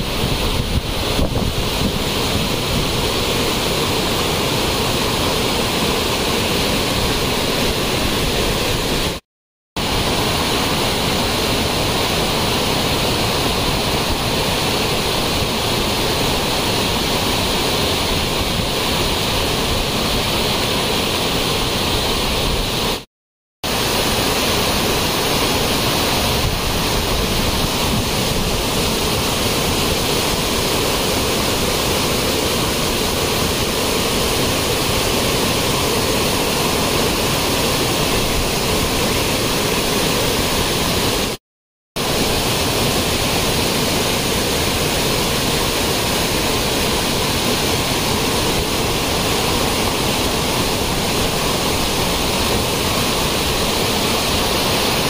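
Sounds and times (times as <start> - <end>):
whitewater rushing over boulders: 0.0 - 9.2, 9.8 - 41.4, 42.0 - 55.0.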